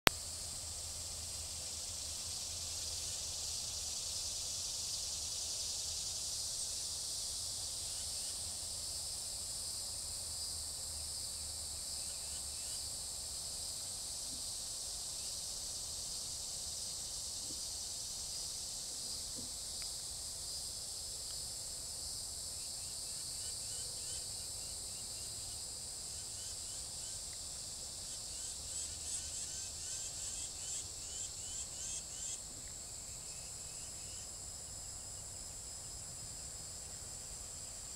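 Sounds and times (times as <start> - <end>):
insects buzzing: 0.1 - 37.9.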